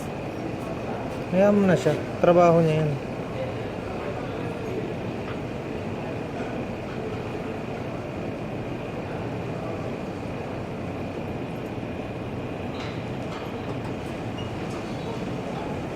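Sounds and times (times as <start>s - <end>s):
low mechanical rumble: 0.0s - 15.9s.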